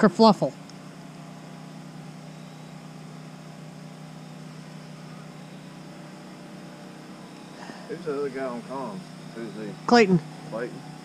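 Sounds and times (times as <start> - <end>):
generator droning: 0.0 - 11.0.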